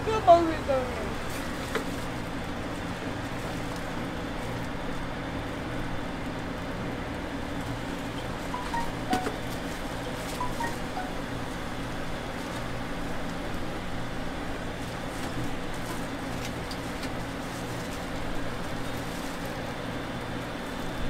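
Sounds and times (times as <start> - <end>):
low background hum and rumble: 0.0 - 21.0.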